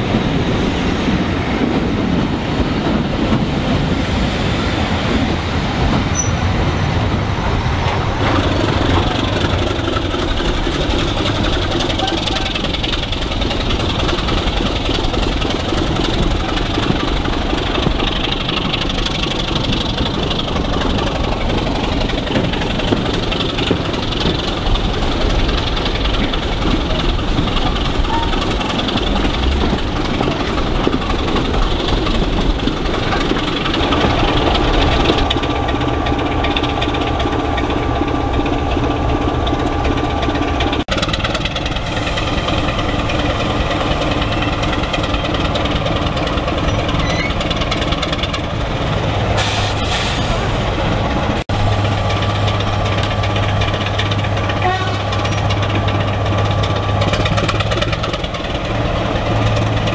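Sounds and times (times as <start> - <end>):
diesel locomotive engine: 0.0 - 59.9
wheels on rails: 0.0 - 59.9.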